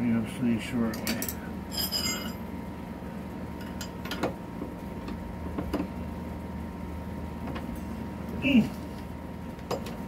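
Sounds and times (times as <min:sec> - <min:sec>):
steady faint hum: 0:00.0 - 0:10.0.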